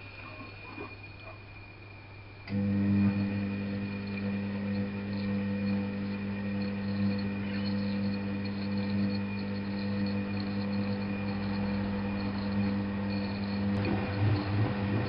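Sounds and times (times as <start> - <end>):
drain pump humming: 2.4 - 15.0.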